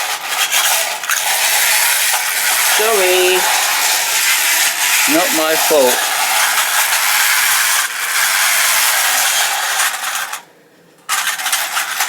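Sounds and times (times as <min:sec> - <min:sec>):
toy train rattling on track: 0:00.0 - 0:12.0.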